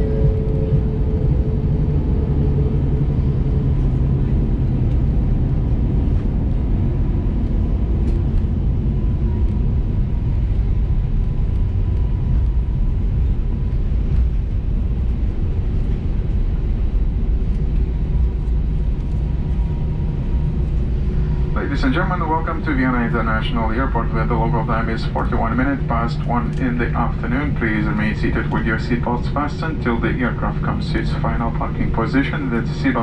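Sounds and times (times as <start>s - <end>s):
aircraft engines idling rumble: 0.0s - 33.0s
faint steady whine: 0.0s - 33.0s.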